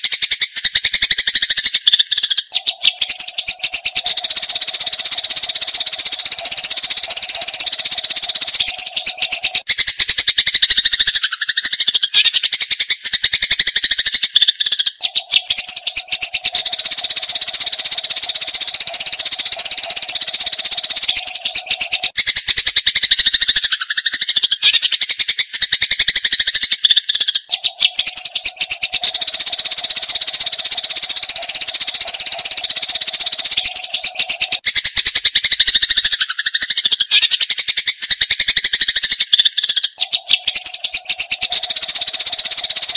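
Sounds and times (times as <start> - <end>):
sparrows chirping rapidly: 0.0 - 42.9.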